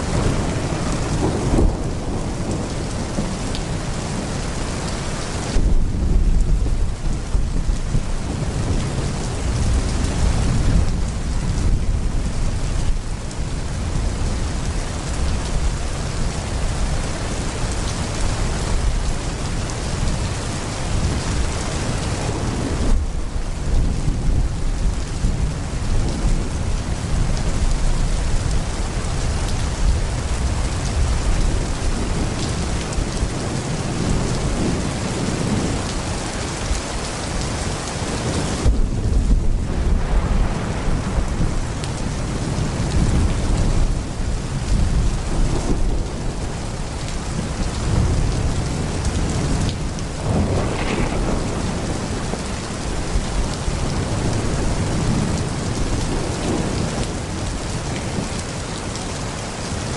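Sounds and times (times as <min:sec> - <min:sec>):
low thunder rumble: 0:00.0 - 0:59.0
heavy rain pouring: 0:00.0 - 0:59.9.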